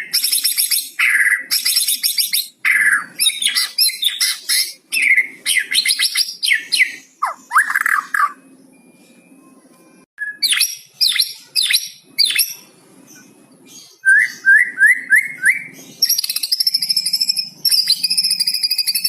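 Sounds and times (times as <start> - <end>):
songbird singing: 0.0 - 9.6, 10.2 - 19.0.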